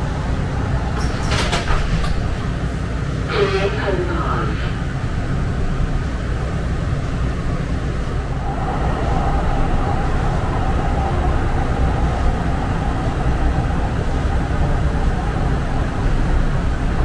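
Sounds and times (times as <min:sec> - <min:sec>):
train rumble inside car: 0:00.0 - 0:17.0.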